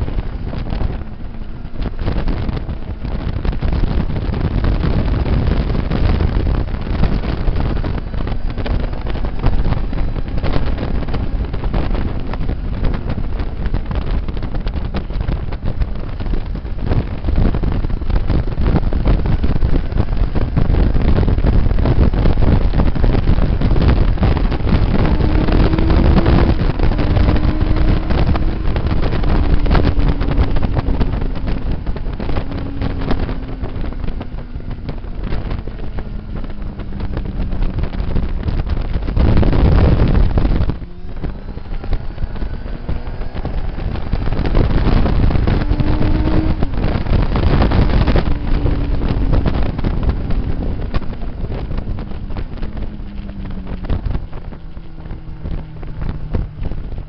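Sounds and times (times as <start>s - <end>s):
motorcycle engine: 0.0s - 57.0s
wind buffeting microphone: 0.0s - 57.0s.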